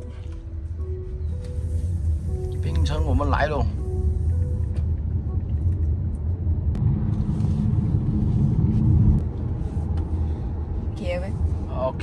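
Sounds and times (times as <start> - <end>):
car road and tyre noise: 0.0 - 12.0.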